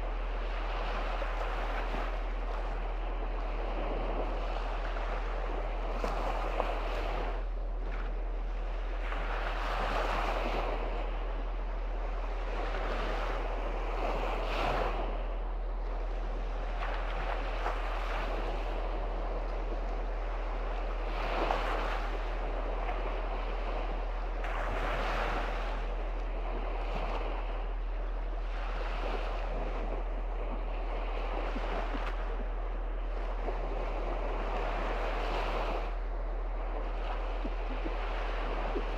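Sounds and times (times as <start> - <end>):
sea waves breaking on shore: 0.0 - 38.9
steady low hum: 0.0 - 38.9.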